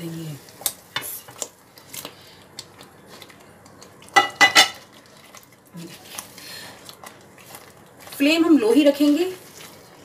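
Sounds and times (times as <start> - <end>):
soft stirring in a pot: 0.0 - 10.0.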